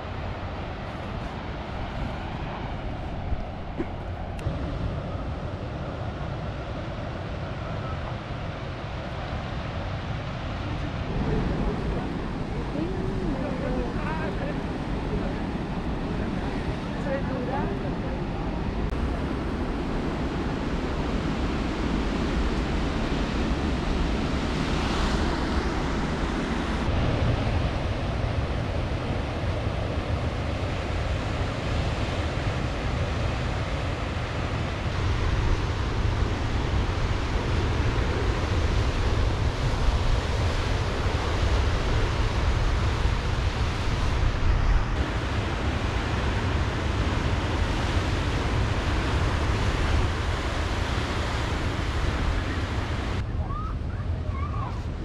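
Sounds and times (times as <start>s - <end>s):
ocean surf washing in: 0.0s - 55.0s
wind rumbling on microphone: 0.0s - 55.0s.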